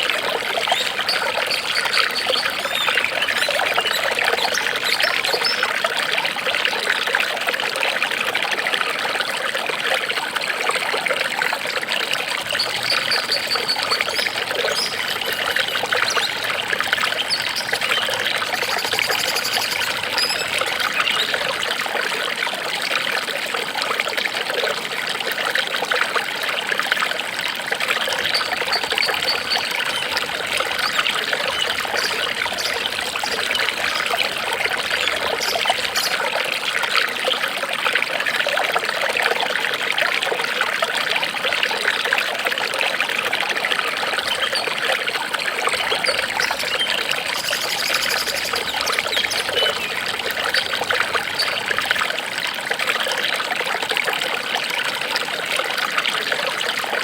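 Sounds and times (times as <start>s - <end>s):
water trickling and babbling: 0.0s - 57.0s.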